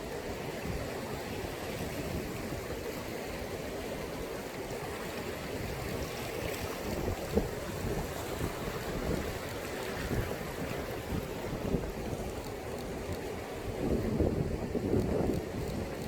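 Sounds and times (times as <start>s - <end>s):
sea waves washing onto shore: 0.0s - 16.0s.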